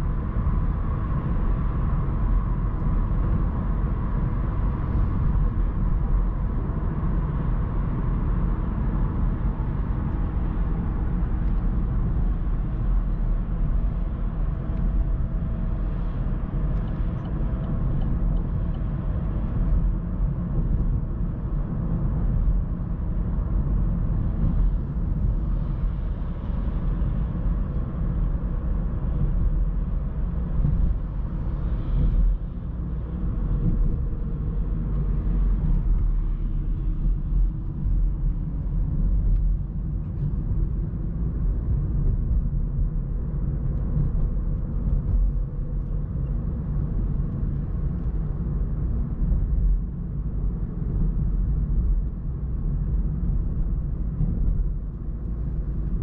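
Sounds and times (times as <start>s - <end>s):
tyre and road rumble: 0.0s - 56.0s.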